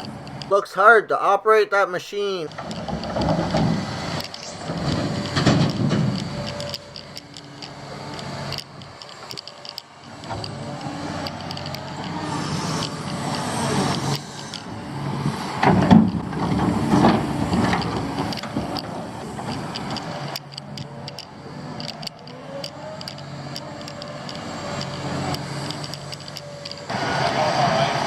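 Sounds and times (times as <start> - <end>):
excavator engine running: 1.8 - 28.0
clicks and rattles: 2.5 - 14.7, 15.6 - 26.9.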